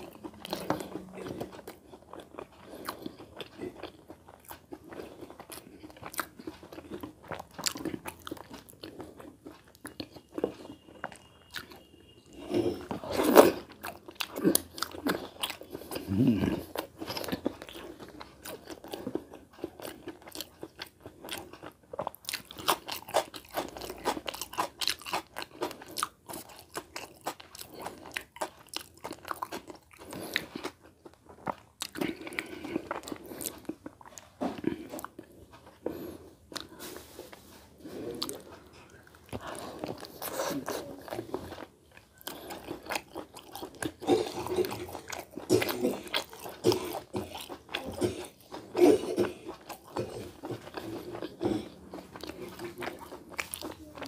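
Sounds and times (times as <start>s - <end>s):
man chewing: 0.0s - 54.0s.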